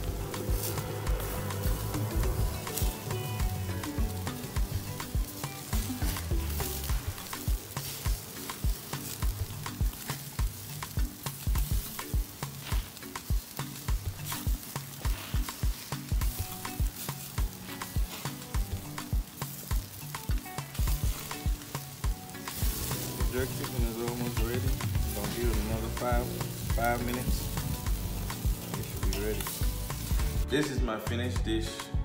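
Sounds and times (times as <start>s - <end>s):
chicken sizzling on a grill: 0.0s - 31.8s
background music with steady beat: 0.0s - 32.0s.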